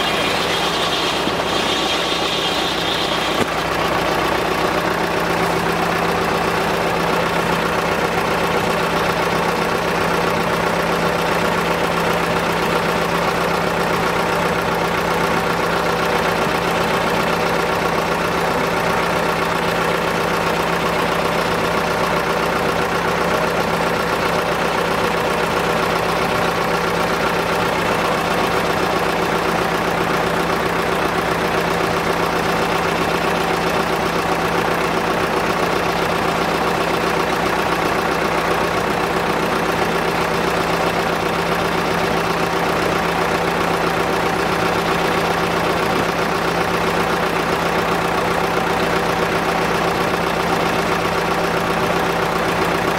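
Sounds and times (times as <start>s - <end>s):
sawmill engine humming: 0.0s - 52.9s.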